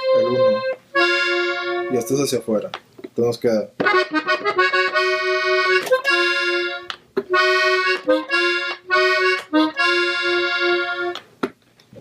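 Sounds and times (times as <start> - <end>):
accordion playing slowly: 0.0 - 2.4, 3.8 - 11.2.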